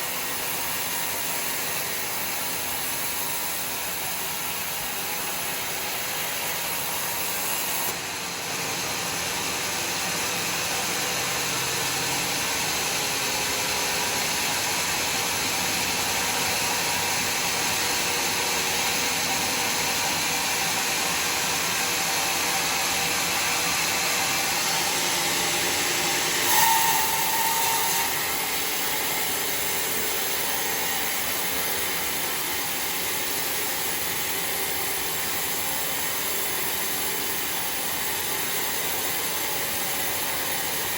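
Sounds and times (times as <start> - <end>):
saw whine: 0.0 - 40.9
sawmill saw cutting log: 0.0 - 40.9.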